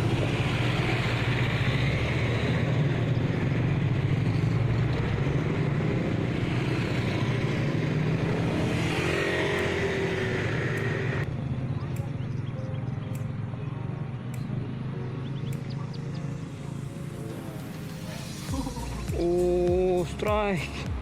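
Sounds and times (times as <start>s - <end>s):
engine speeding up: 0.0s - 18.8s
vehicle engines running: 0.0s - 21.0s.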